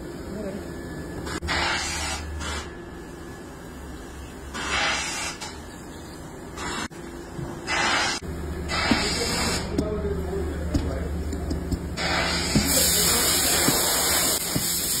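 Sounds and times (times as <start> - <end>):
low workshop hum: 0.0 - 15.0.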